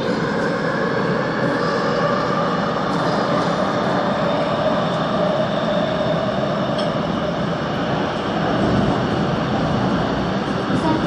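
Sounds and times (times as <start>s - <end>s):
train wheels rumbling in tunnel: 0.0s - 11.0s.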